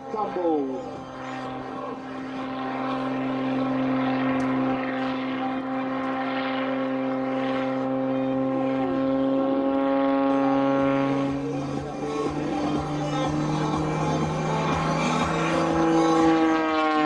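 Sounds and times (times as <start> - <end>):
falling pitch glides: 0.0 - 17.0
plane engine droning: 0.0 - 17.0.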